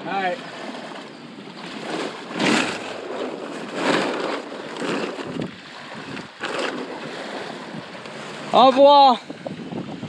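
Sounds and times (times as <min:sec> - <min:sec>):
water splashing around boat: 0:00.0 - 0:10.0
wind on microphone: 0:00.5 - 0:10.0.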